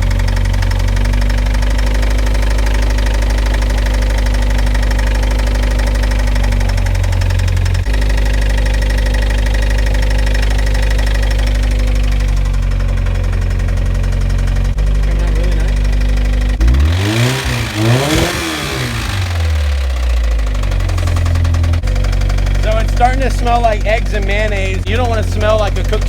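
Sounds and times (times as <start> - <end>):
car engine idling with knock: 0.0 - 26.0.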